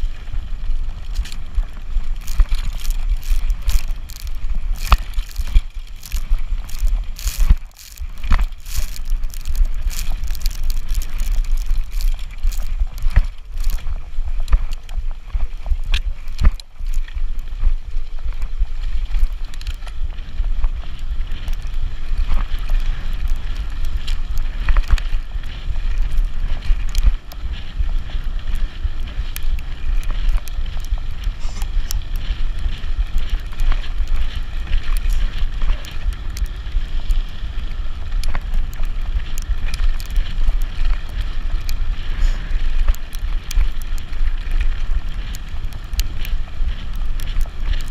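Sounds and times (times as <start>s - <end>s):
bike clicking and rattling: 0.0s - 47.9s
wind buffeting microphone: 0.0s - 47.9s.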